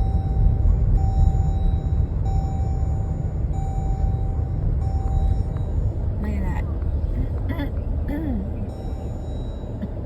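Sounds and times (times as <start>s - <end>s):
car interior rumble: 0.0s - 10.0s.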